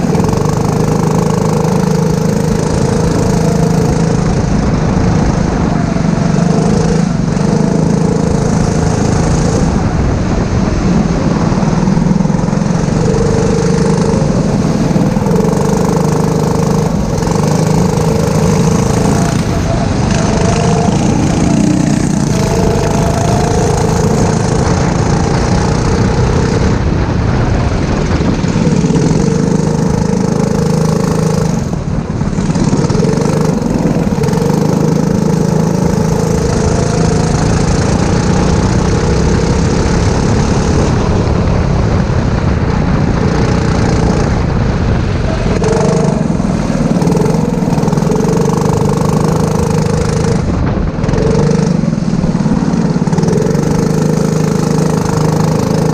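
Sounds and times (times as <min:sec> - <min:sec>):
kart engine racing: 0:00.0 - 0:55.9.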